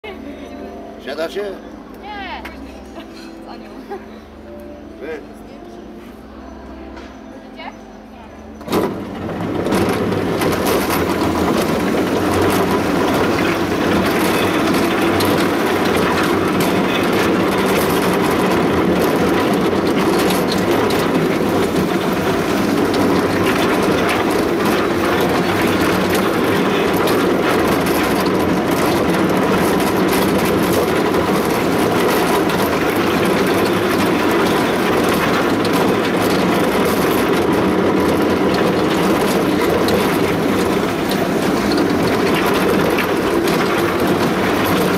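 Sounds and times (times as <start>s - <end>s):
ride-on train motor and wheels: 0.0s - 44.9s.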